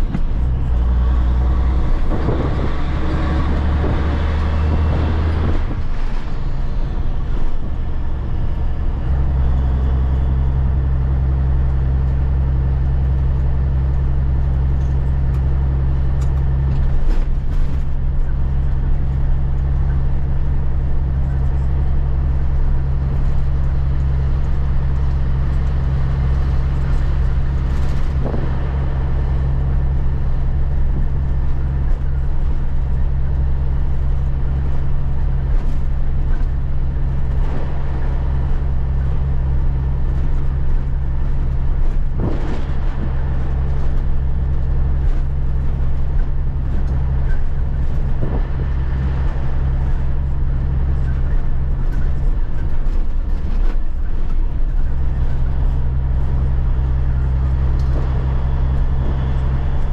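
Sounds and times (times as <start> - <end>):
diesel truck engine drone: 0.0 - 59.9.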